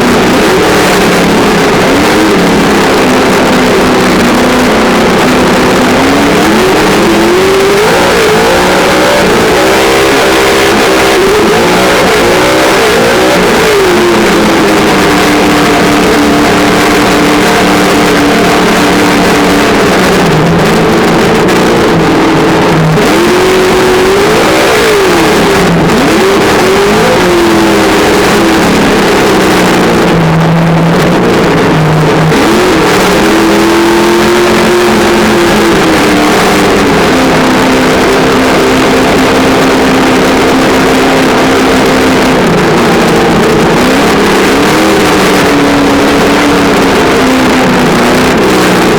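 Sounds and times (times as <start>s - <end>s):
simulated engine sound from speaker: 0.0s - 48.9s.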